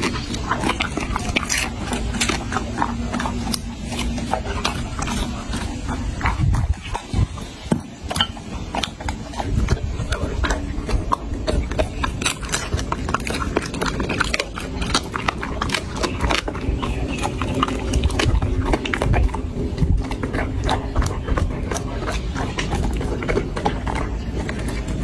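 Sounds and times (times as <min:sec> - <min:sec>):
dog crunching food: 0:00.0 - 0:25.0.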